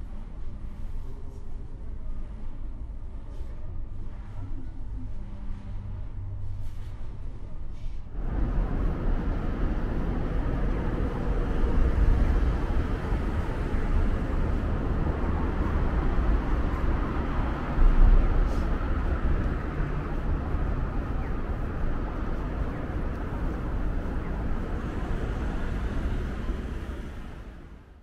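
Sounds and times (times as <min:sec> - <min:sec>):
city street traffic rumble: 0:00.0 - 0:28.0.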